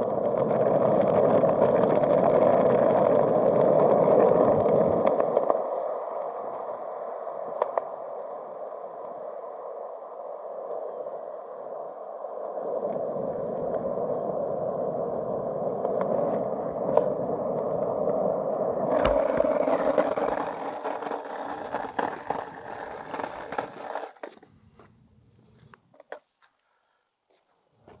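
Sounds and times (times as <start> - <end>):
skateboard wheels rolling on concrete: 0.0 - 28.0.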